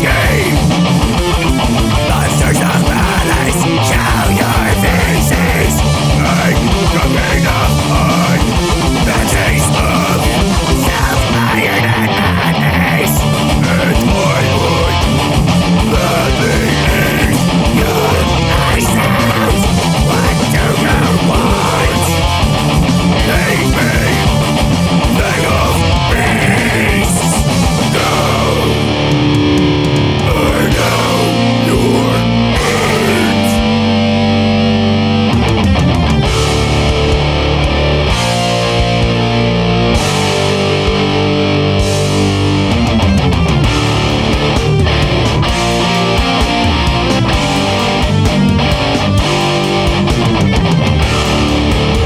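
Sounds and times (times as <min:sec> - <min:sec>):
death metal with heavy guitar: 0:00.0 - 0:52.0.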